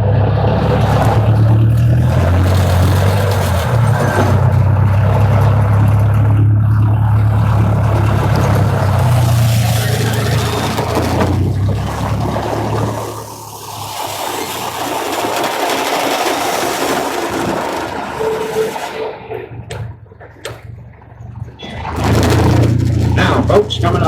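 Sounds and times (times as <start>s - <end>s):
broad noisy rush: 0.0s - 24.0s
ride train engine drone: 0.0s - 24.0s.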